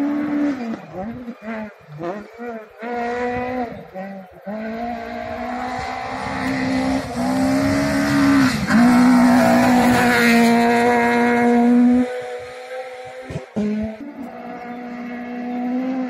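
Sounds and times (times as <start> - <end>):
rally car engine at high revs: 0.0 - 16.0.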